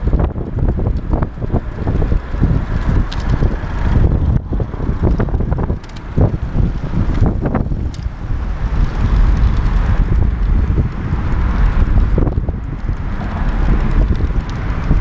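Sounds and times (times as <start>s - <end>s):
bike knocks and rattles: 0.0s - 15.0s
low rumble of bike on pavement: 0.0s - 15.0s
wind buffeting microphone: 0.0s - 15.0s.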